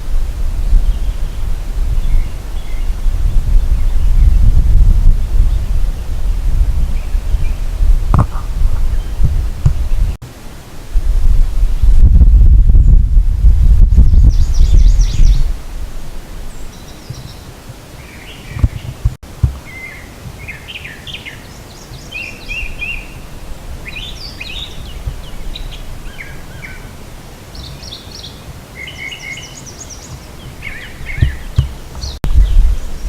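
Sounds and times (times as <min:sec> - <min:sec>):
songbirds singing and chirping: 0:00.0 - 0:10.2, 0:13.8 - 0:15.6, 0:16.4 - 0:33.0
wind buffeting microphone: 0:00.0 - 0:17.3, 0:18.4 - 0:20.5, 0:22.4 - 0:33.0.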